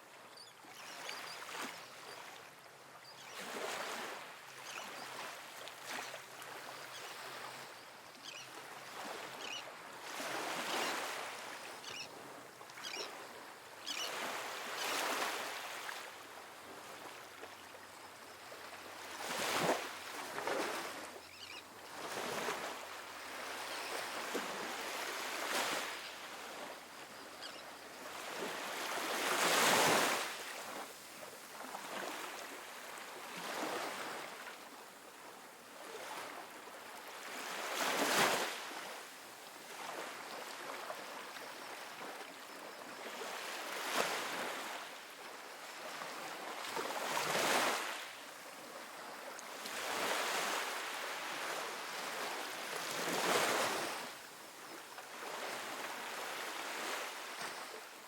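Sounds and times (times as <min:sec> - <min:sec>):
waves breaking on beach: 0:03.3 - 0:17.6, 0:18.5 - 0:21.2, 0:21.9 - 0:26.9, 0:27.9 - 0:35.0, 0:35.7 - 0:58.0.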